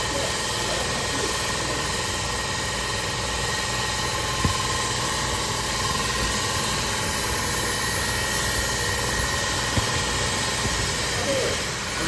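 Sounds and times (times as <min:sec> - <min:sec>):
machine drone with hiss: 0:00.0 - 0:12.0.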